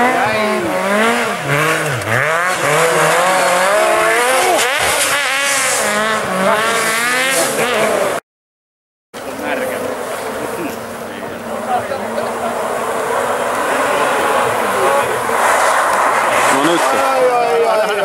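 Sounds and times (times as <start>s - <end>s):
rally car engine revving: 0.0s - 8.2s, 9.2s - 18.0s.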